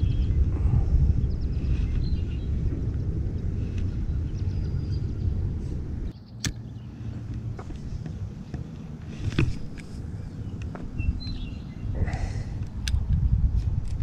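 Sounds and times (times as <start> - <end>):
wind buffeting microphone: 0.0 - 6.1, 6.7 - 14.0.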